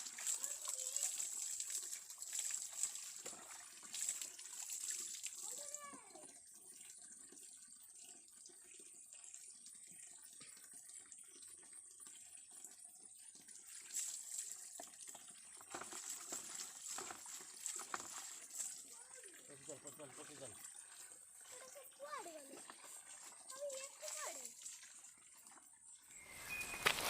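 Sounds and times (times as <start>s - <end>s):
running and splashing water: 0.0s - 27.0s.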